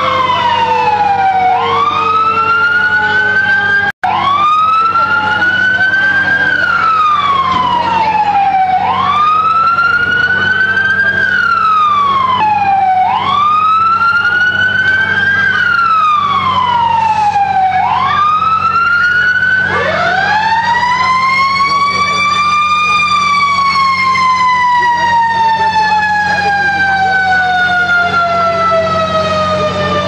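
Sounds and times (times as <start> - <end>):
engine rumble: 0.0 - 30.0
fire truck siren wailing: 0.0 - 30.0.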